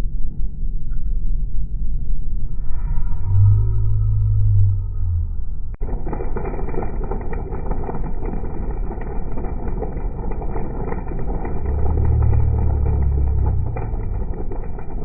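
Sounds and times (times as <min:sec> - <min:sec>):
deep low rumble: 0:00.0 - 0:15.0.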